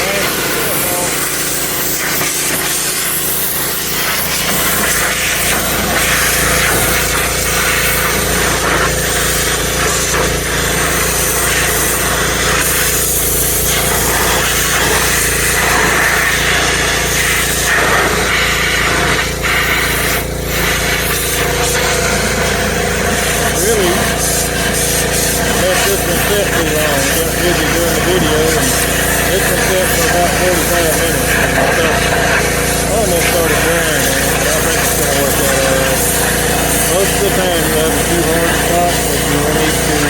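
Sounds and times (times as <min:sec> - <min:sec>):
pressure washer spraying: 0:00.0 - 0:40.0.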